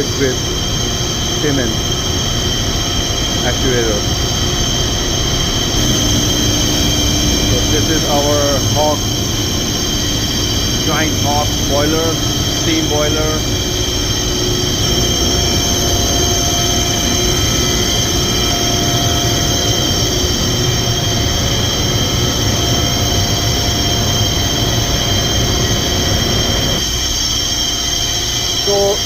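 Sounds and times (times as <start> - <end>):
high machine whines: 0.0 - 29.0
machinery rumble: 0.0 - 29.0.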